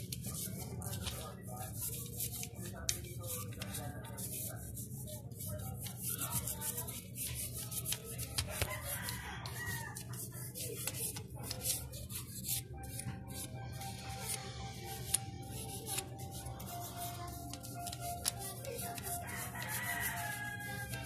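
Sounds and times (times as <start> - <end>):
toothbrush scrubbing metal fins: 0.0 - 21.0.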